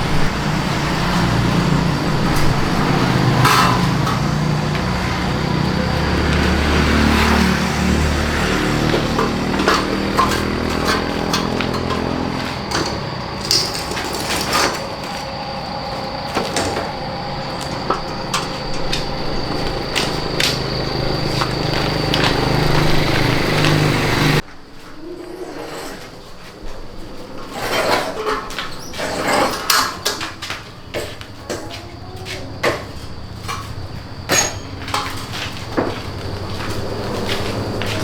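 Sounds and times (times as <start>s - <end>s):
engine-like hum: 0.0s - 24.4s, 29.2s - 38.0s
hand tools clinking: 1.2s - 24.4s, 27.9s - 38.0s.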